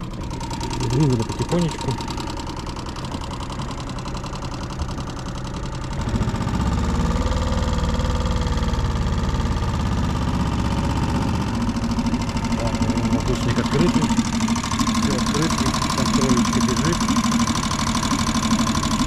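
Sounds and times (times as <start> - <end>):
small outboard motor running: 0.0 - 19.0.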